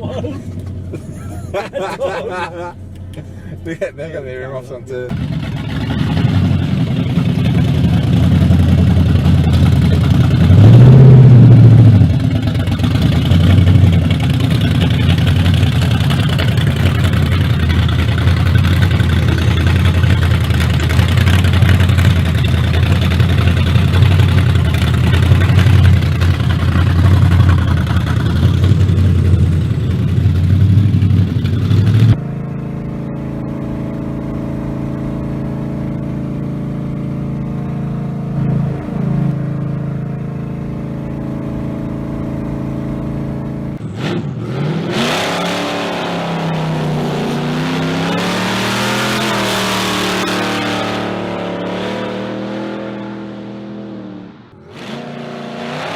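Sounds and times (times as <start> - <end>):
engine rumbling and revving: 0.0 - 55.9.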